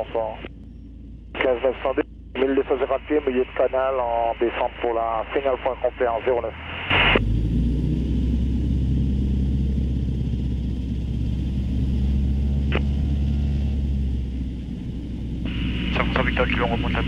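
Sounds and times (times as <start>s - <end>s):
plane engine running: 0.0s - 17.0s.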